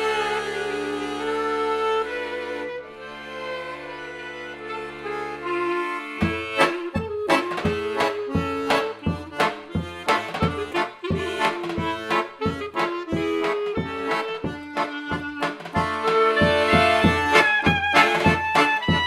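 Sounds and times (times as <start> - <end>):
klezmer ensemble playing: 0.0 - 19.0.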